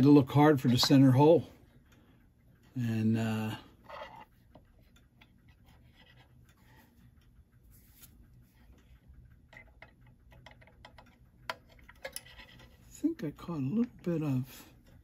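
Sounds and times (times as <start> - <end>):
small clicks and light scraping: 0.0 - 15.0.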